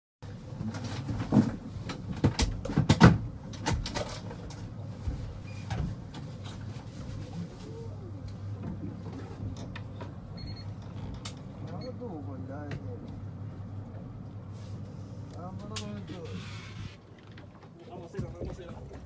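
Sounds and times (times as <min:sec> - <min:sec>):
steady low hum: 0:00.2 - 0:19.0.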